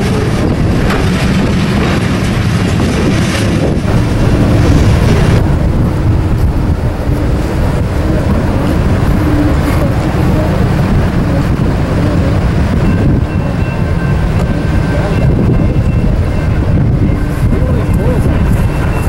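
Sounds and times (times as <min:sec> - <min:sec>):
freight train rumble: 0:00.0 - 0:19.0
wind buffeting microphone: 0:00.0 - 0:19.0.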